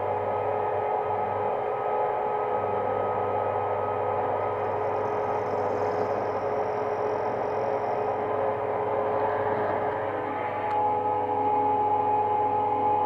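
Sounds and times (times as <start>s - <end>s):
lathe humming: 0.0s - 13.0s
motor and gear whine: 0.0s - 13.0s.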